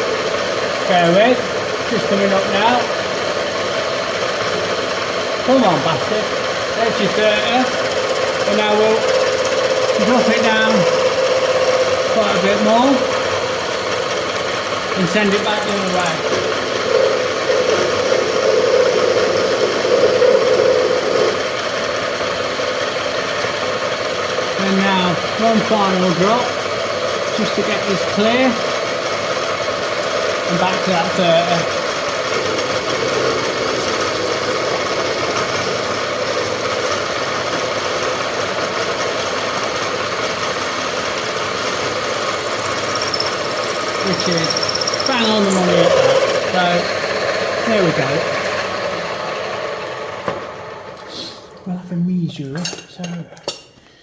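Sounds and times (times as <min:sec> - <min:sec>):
milling machine cutting: 0:00.0 - 0:51.0.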